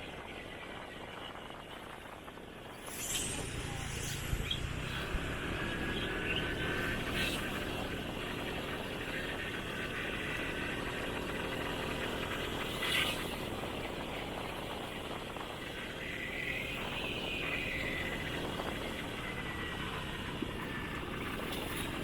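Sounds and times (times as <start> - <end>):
wind rushing over microphone: 0.0 - 22.0
motorbike engine running: 3.0 - 22.0.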